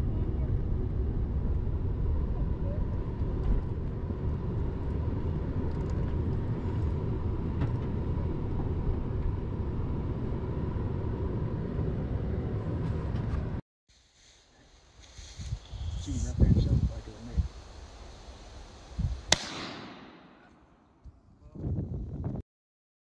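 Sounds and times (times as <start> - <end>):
vehicle engine and tyre rumble: 0.0 - 19.4.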